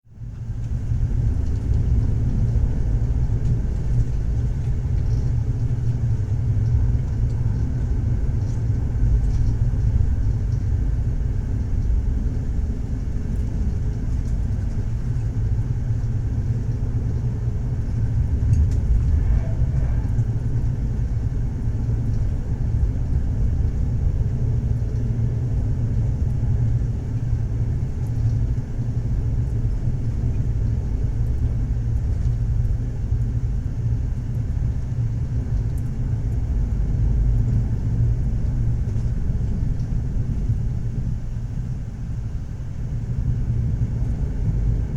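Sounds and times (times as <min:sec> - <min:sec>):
moving train rumble: 0:00.1 - 0:44.9.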